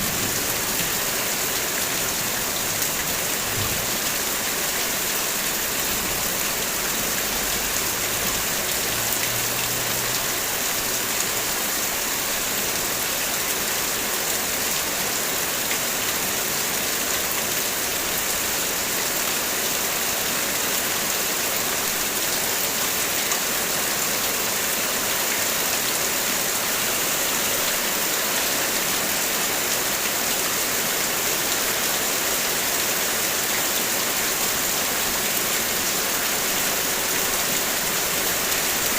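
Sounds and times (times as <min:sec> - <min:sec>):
heavy rain on a car: 0:00.0 - 0:38.9.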